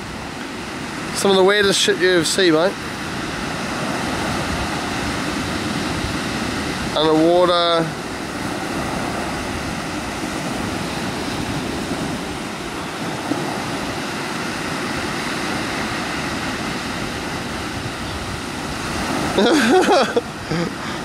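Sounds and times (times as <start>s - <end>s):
moving water: 0.0s - 21.0s
wind: 0.0s - 21.0s.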